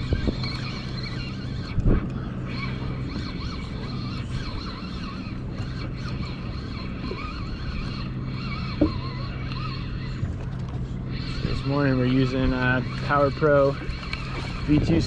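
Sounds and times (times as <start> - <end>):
boat engine idling: 0.0 - 15.0
thin wavering high calls: 0.0 - 15.0.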